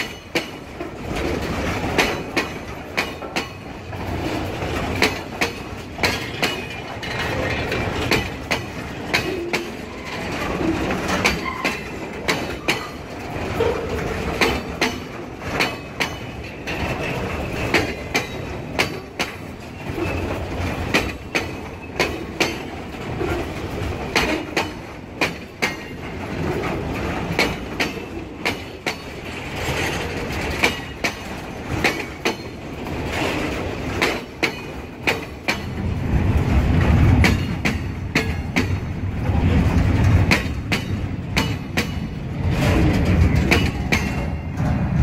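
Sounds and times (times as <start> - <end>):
freight train rumble: 0.0 - 45.0
train wheels clicking over rail joints: 0.0 - 45.0.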